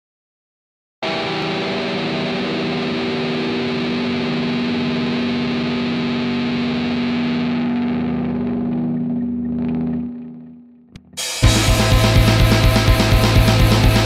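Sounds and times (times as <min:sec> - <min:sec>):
distorted electric guitar chord: 0:01.0 - 0:14.0.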